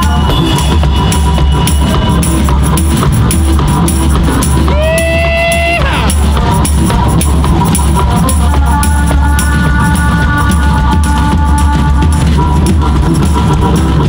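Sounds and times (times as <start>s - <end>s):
drum kit beat: 0.0s - 14.0s
tambourine shaken: 0.0s - 14.0s.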